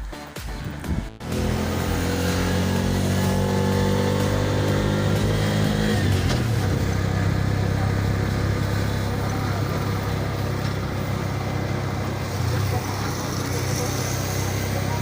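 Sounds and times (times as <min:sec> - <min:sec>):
car engine: 0:00.6 - 0:15.0
road noise rumble: 0:00.6 - 0:15.0.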